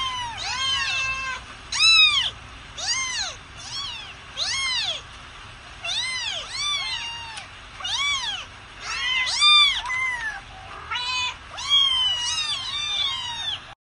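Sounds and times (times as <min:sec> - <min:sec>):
kittens meowing: 0:00.0 - 0:05.1, 0:05.8 - 0:13.8.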